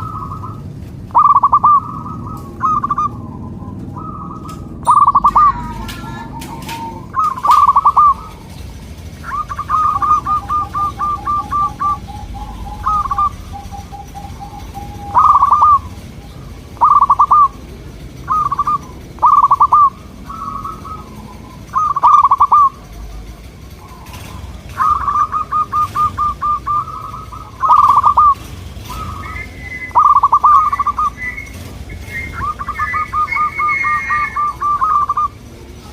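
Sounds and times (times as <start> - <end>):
doves cooing: 0.0 - 35.9
lower-pitched bird calling: 0.0 - 35.9.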